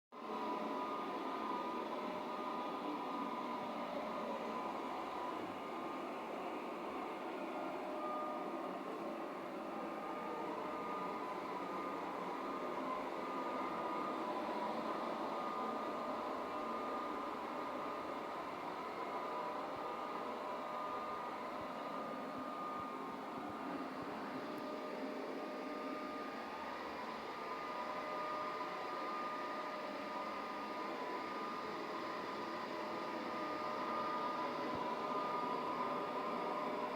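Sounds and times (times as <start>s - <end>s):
robot vacuum cleaner whirring: 0.2s - 36.9s.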